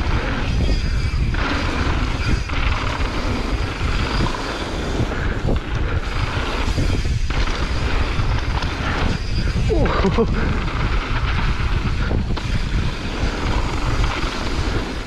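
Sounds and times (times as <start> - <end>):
tyres rumbling on dirt: 0.0 - 15.0
wind rush on microphone: 0.0 - 15.0.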